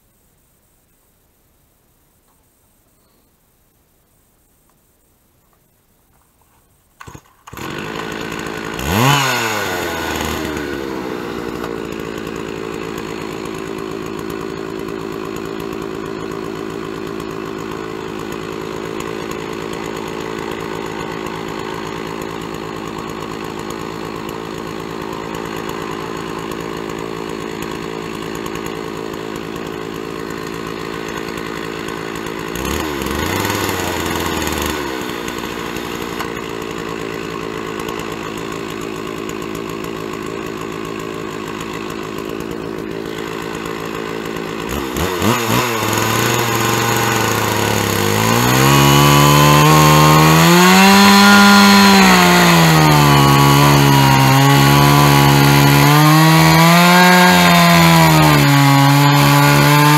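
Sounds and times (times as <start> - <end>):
chainsaw ripping log: 7.0 - 59.9.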